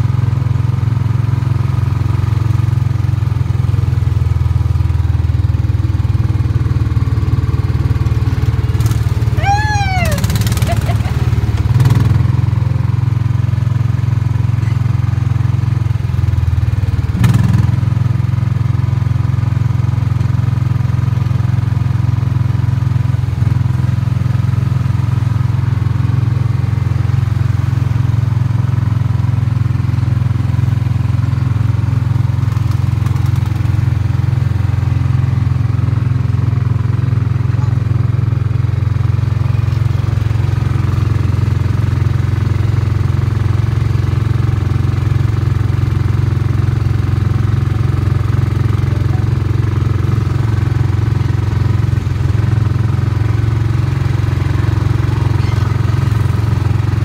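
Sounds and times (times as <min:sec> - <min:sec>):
small gasoline engine droning: 0:00.0 - 0:57.0.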